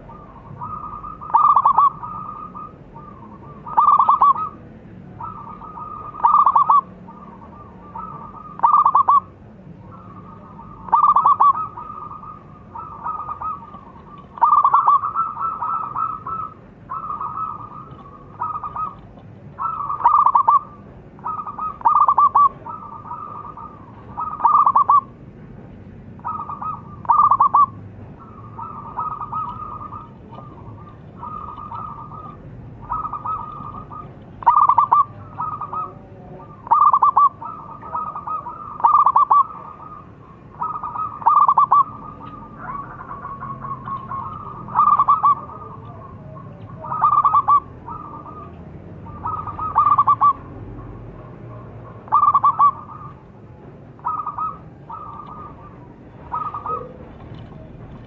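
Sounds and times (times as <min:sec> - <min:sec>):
dove cooing: 0:00.0 - 0:25.2, 0:26.1 - 0:58.0.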